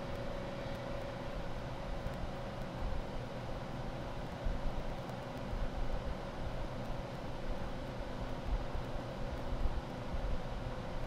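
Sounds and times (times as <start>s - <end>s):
air conditioner running: 0.0s - 11.0s.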